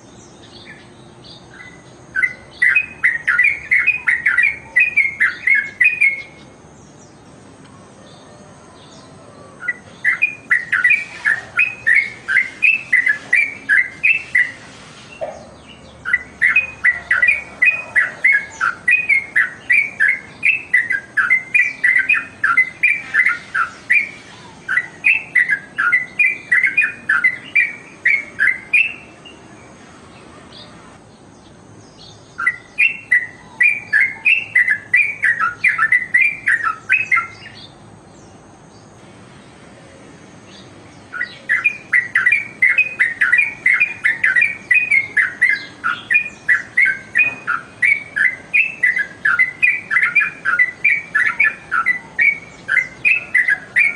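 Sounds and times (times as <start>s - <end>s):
bulbul chirping song: 0.0s - 39.6s, 40.3s - 53.9s.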